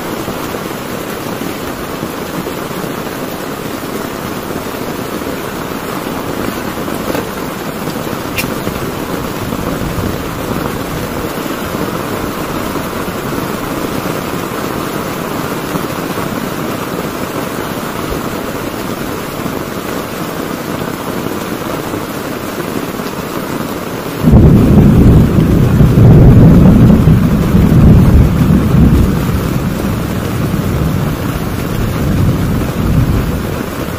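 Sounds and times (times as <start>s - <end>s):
heavy rain on a tent: 0.0s - 33.9s.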